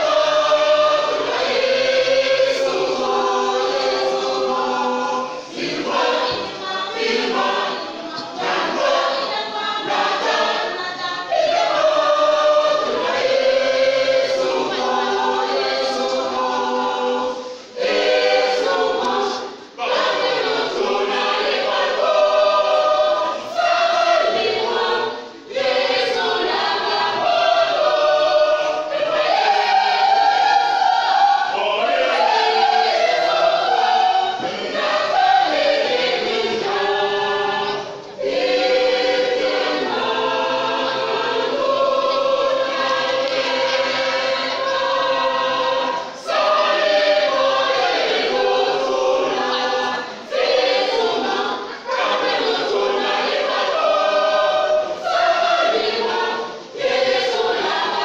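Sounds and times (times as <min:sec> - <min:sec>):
church choir singing: 0:00.0 - 0:58.0.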